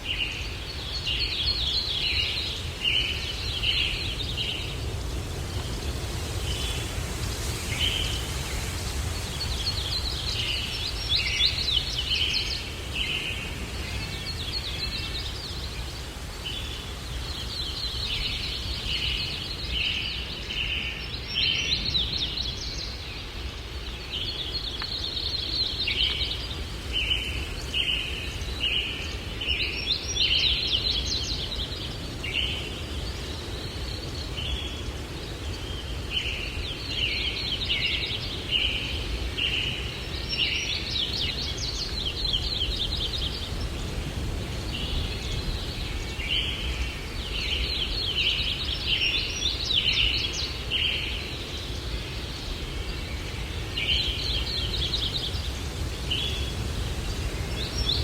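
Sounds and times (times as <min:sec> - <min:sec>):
low rumble of breeze: 0:00.0 - 0:58.0
songbirds chirping: 0:00.0 - 0:58.0.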